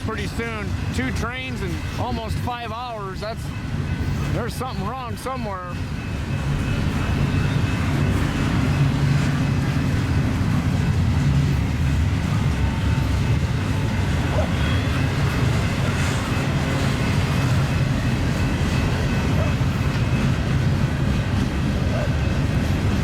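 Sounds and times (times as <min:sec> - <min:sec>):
freight train wheels rumbling on rails: 0:00.0 - 0:23.0.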